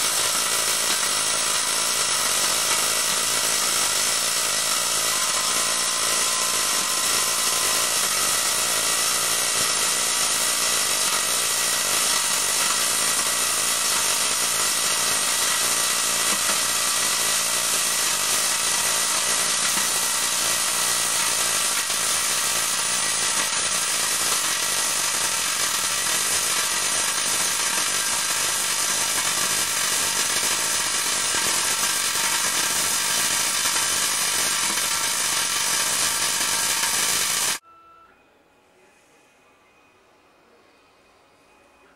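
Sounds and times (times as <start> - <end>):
welding arc hissing and crackling: 0.0 - 37.6.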